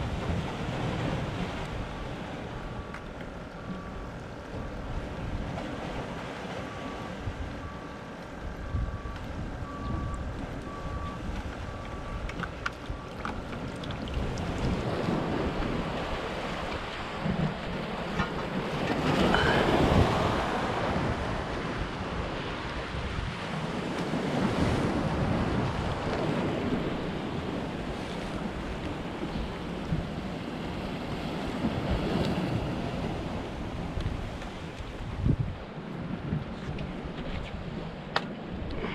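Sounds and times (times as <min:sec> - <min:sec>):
waves washing against concrete wall: 0:00.0 - 0:38.9
wind buffeting microphone: 0:00.0 - 0:38.9.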